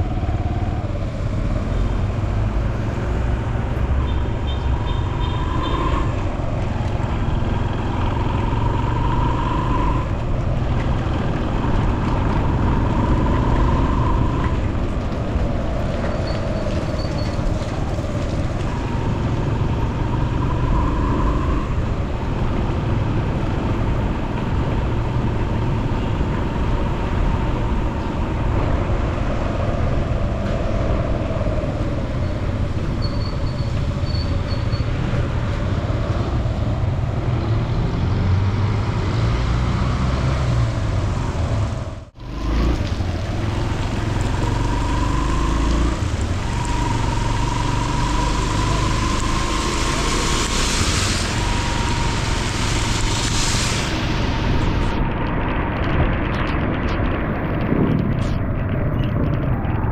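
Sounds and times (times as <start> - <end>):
road noise: 0.0 - 59.9
vehicle engine: 0.0 - 59.9.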